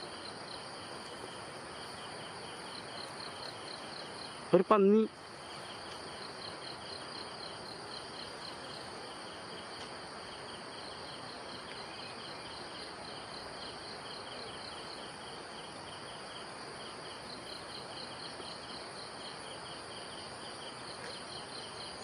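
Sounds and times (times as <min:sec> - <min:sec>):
insects chirping: 0:00.0 - 0:22.0
steady background hiss: 0:00.0 - 0:22.0.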